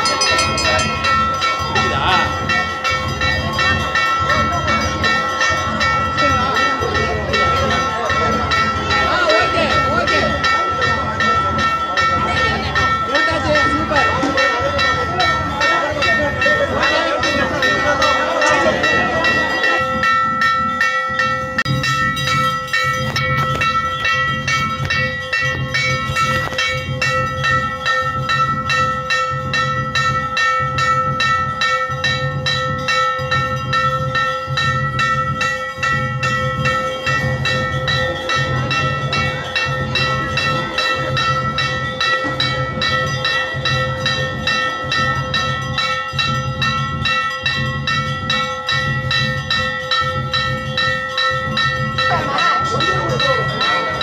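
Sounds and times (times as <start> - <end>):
bells ringing rapidly: 0.0 - 54.0.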